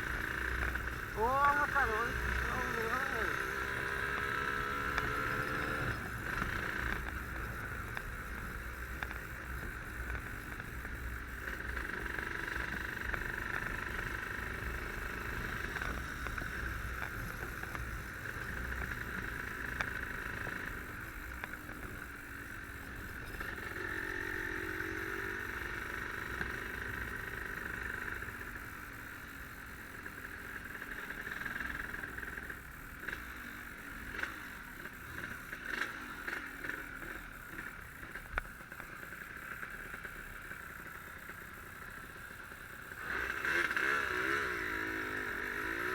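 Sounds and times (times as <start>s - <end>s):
two-stroke motorcycle engine running: 0.0s - 45.9s.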